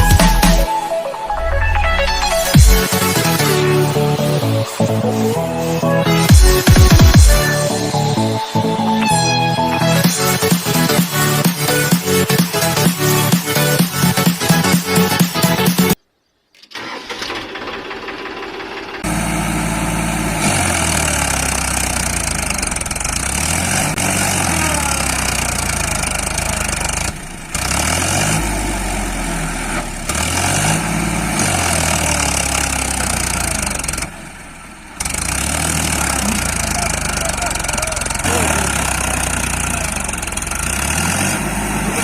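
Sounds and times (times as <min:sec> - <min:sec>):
engine revving: 0:00.0 - 0:16.0, 0:16.7 - 0:42.0.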